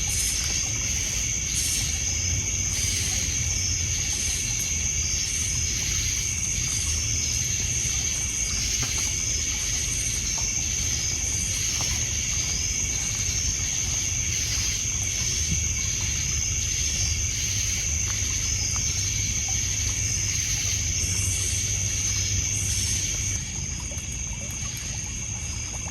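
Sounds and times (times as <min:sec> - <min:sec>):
crickets trilling: 0:00.0 - 0:25.9
pulsing insect chirp: 0:00.0 - 0:25.9
water lapping on pebbles: 0:00.0 - 0:25.9.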